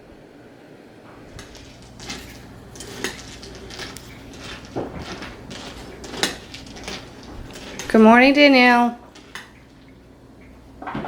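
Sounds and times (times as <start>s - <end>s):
low steady hum: 0.0s - 11.0s
dishes and cutlery clattering: 1.2s - 11.0s.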